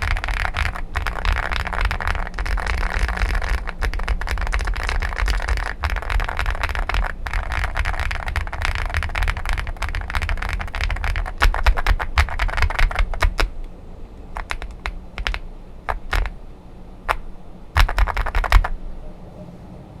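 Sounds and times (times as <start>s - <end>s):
mechanical keyboard typing: 0.0s - 13.6s, 14.2s - 16.4s, 17.1s - 18.8s.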